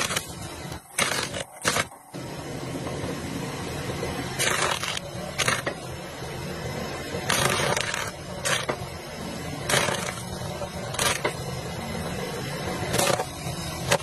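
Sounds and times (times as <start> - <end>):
loader engine running: 0.0 - 14.0.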